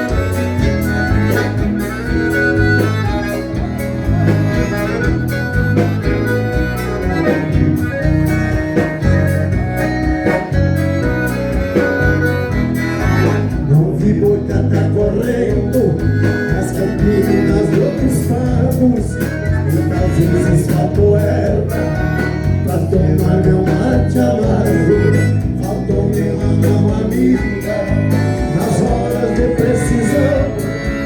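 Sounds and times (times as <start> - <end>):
button accordion melody: 0.0 - 31.0
steady bass beat: 0.0 - 31.0
strummed guitar: 0.0 - 31.0.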